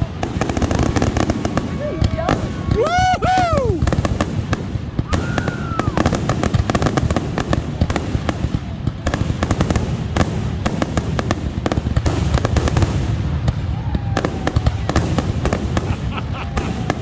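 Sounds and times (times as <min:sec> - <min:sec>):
fireworks bangs and crackles: 0:00.0 - 0:17.0
whistling firework: 0:00.0 - 0:17.0.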